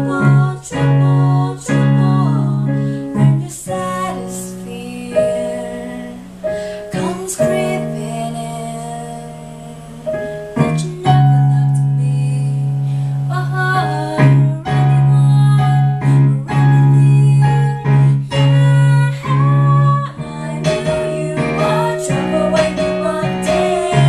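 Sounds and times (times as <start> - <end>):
piano playing sustained chords: 0.0 - 24.0
women singing pop ballad: 0.0 - 24.0.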